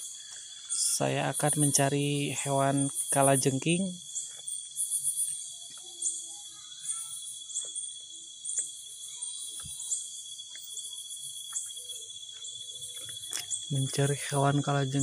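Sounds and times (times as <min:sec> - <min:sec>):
crickets chirping: 0:00.0 - 0:15.0
high-pitched insect trill: 0:00.0 - 0:15.0.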